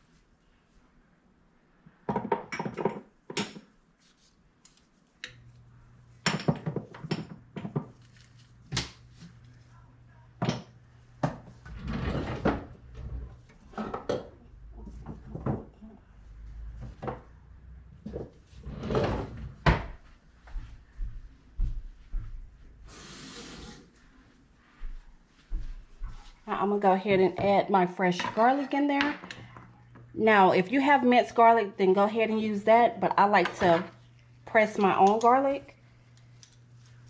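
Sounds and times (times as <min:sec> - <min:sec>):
low steady hum: 0:04.7 - 0:22.8, 0:24.0 - 0:37.0.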